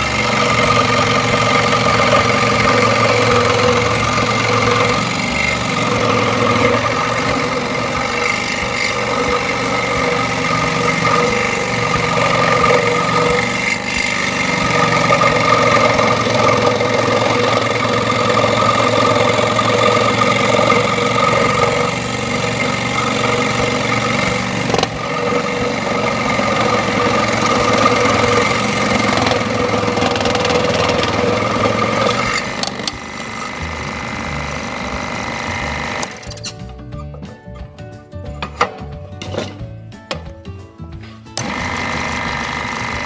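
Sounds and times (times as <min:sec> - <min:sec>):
scroll saw cutting wood: 0:00.0 - 0:36.6, 0:41.4 - 0:43.0.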